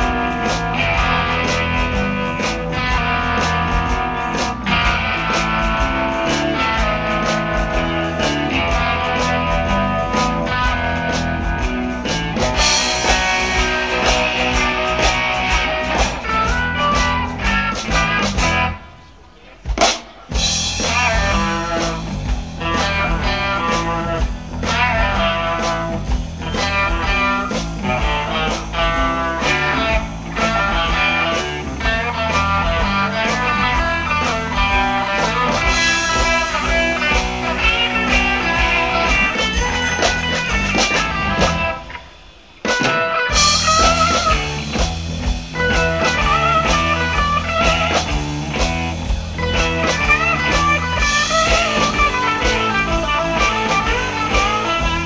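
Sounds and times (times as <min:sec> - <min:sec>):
electric guitar lead: 0:00.0 - 0:55.0
live blues band: 0:00.0 - 0:55.0.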